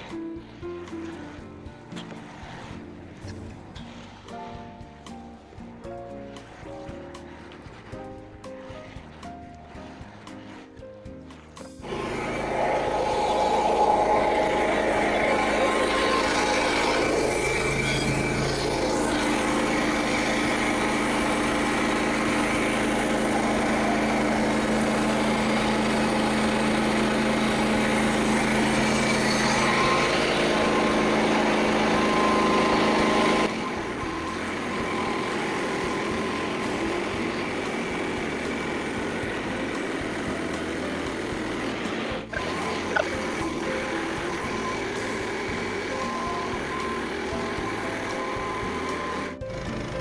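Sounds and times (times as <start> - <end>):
band saw cutting log: 0.0 - 50.0
small gasoline engine running: 0.0 - 50.0.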